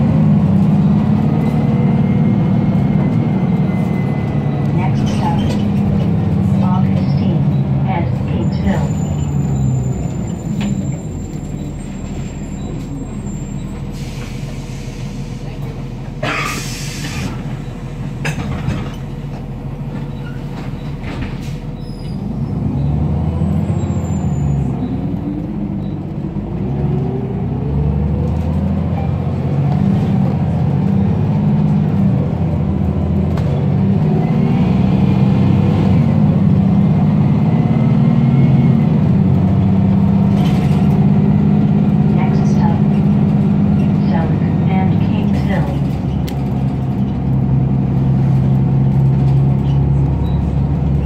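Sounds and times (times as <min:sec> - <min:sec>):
bus engine revving and running: 0:00.0 - 0:51.0.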